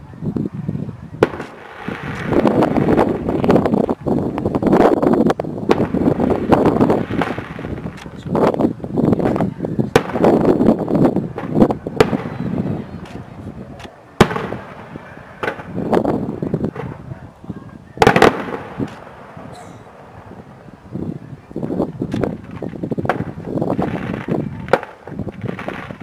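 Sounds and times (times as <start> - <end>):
firework crackling: 0.8 - 26.0
firework bangs: 1.2 - 17.3, 18.0 - 26.0.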